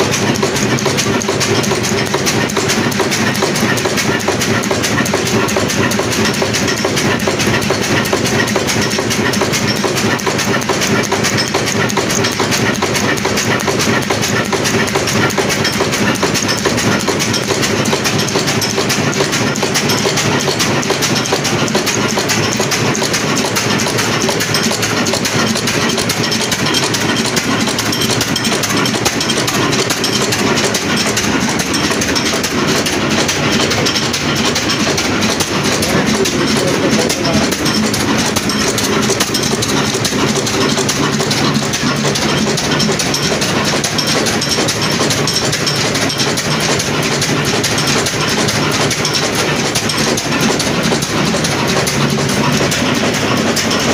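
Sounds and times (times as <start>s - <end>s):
diesel engine clattering: 0.0s - 53.9s.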